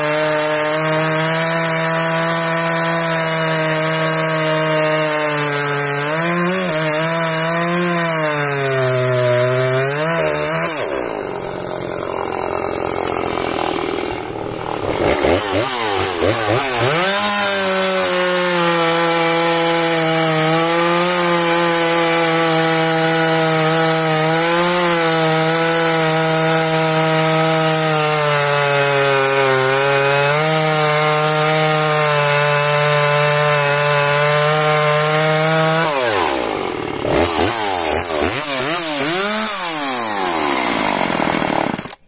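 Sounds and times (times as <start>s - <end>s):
chainsaw cutting log: 0.0s - 42.0s.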